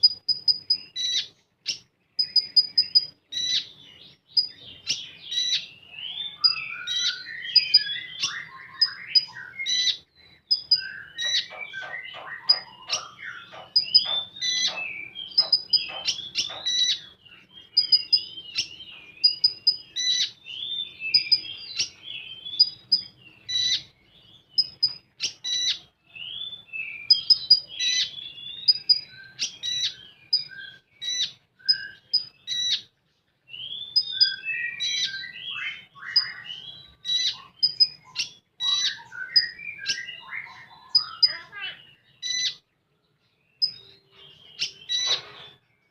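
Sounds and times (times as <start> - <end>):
bird singing chattering warble: 0.0 - 42.8, 43.4 - 45.9.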